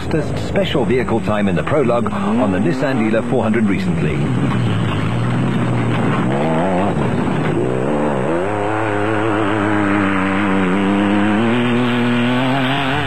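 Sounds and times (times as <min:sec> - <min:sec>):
buggy engine revving hard: 0:01.7 - 0:13.0.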